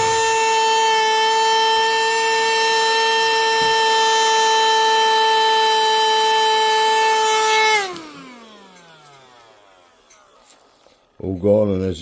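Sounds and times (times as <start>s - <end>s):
handheld vacuum cleaner whine: 0.0s - 11.2s.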